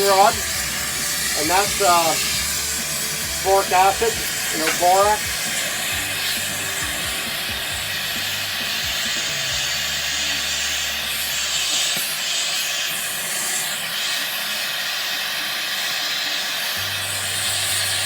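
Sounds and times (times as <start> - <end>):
gas torch hissing: 0.0 - 18.0.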